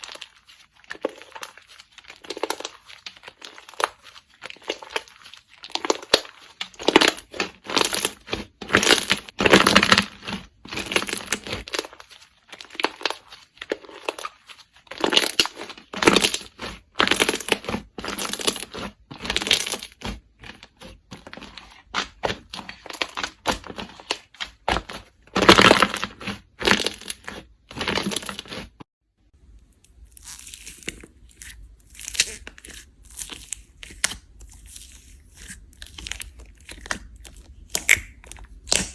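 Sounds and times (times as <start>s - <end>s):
slime crackling and popping: 0.0s - 28.7s, 30.0s - 38.9s.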